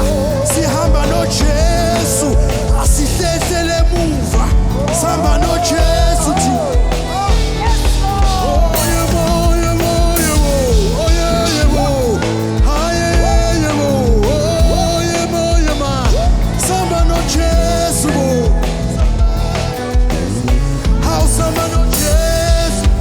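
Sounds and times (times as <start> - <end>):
sliding lead melody: 0.0 - 23.0
steady drum beat: 0.0 - 23.0
worship band playing upbeat song: 0.0 - 23.0.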